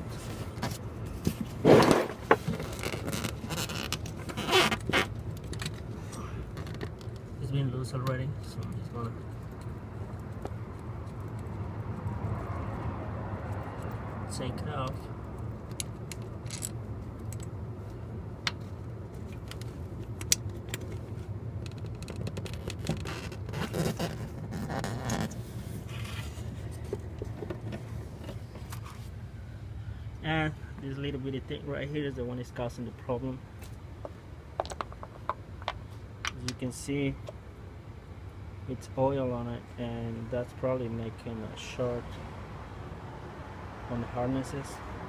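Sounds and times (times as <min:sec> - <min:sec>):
steady low hum: 0:00.0 - 0:44.7.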